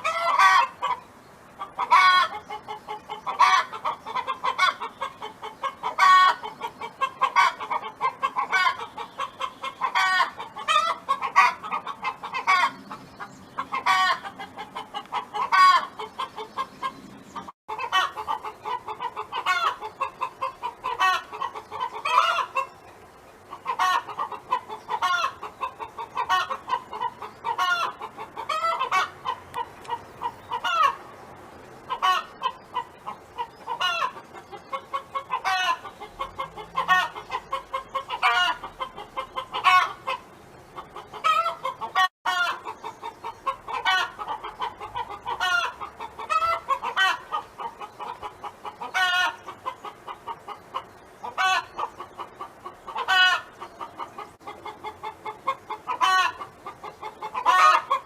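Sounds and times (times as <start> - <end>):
hen clucking and cackling: 0.0 - 58.0.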